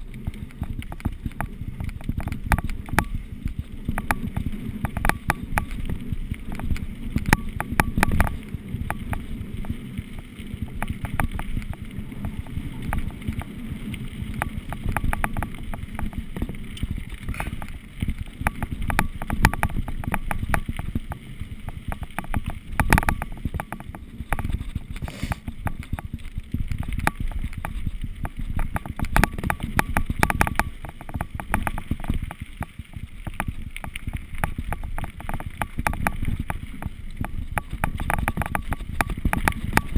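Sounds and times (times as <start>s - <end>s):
bike rattling and clicking: 0.0s - 39.9s.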